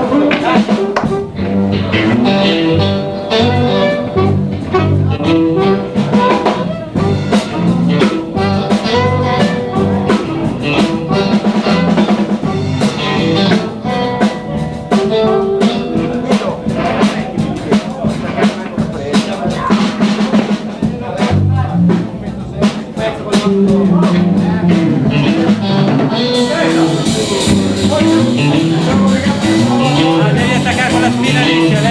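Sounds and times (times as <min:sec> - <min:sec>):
drum kit beat: 0:00.0 - 0:31.9
guitar: 0:00.0 - 0:31.9
walking bass line: 0:00.0 - 0:31.9.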